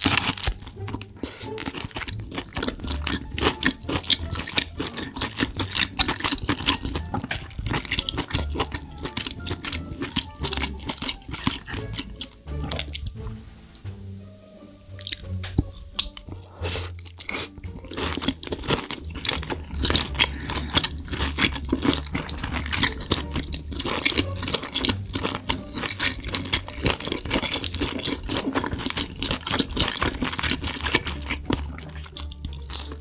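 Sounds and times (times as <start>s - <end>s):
wet mouth clicks: 0.0s - 14.0s, 14.9s - 33.0s
person chewing: 0.0s - 33.0s.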